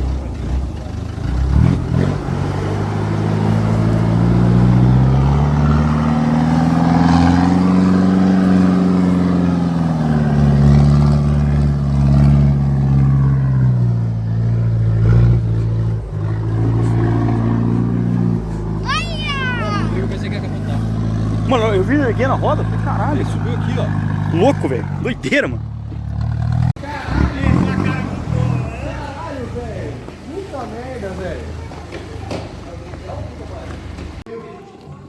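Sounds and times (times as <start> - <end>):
off-road vehicle engine revving: 0.0 - 34.3.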